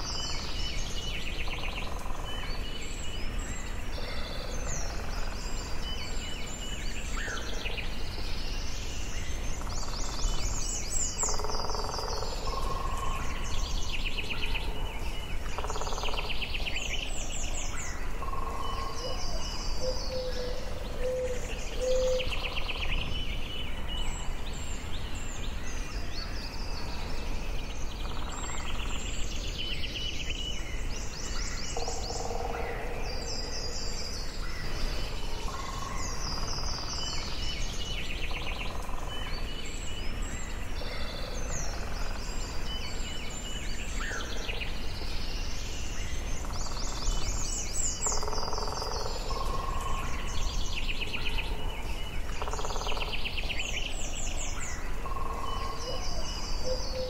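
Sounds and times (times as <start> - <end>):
birds trilling and chirping: 0.0 - 57.0.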